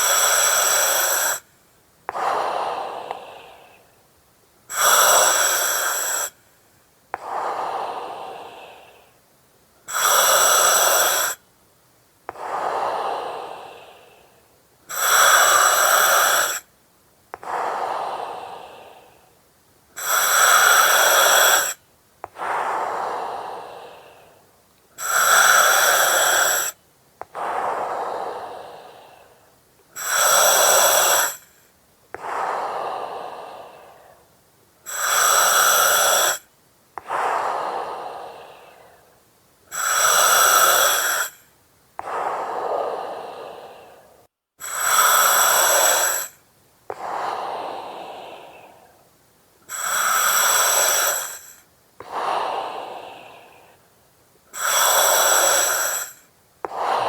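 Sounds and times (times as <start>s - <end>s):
breathing through oxygen mask: 0.0s - 1.5s, 2.1s - 3.9s, 4.7s - 6.4s, 7.2s - 9.2s, 9.9s - 11.4s, 12.3s - 16.7s, 17.4s - 19.3s, 20.0s - 53.9s, 54.5s - 57.0s.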